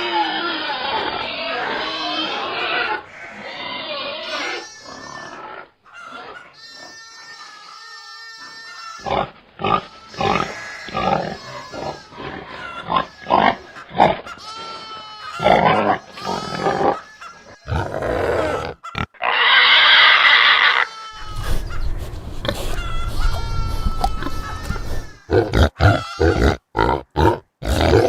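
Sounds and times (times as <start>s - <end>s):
pigs grunting and squealing: 0.0s - 28.0s.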